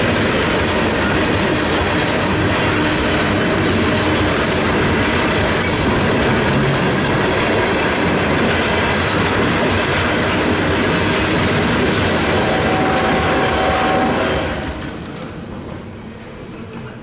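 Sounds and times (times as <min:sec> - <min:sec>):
steel wheels on rail: 0:00.0 - 0:17.0.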